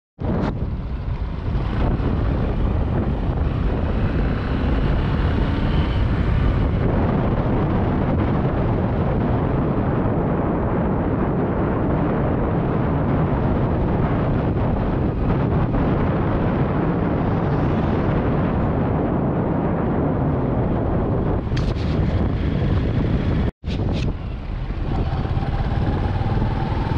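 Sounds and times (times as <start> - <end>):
vehicle road noise: 0.2 - 26.9
wind rumbling on microphone: 0.2 - 26.9.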